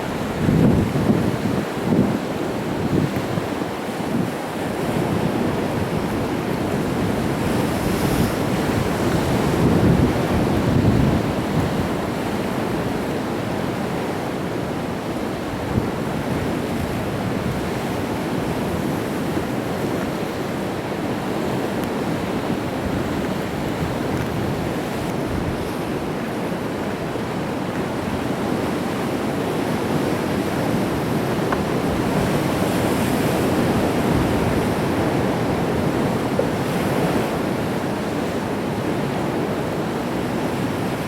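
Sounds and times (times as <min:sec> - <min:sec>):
waves breaking on rocks: 0:00.0 - 0:41.0.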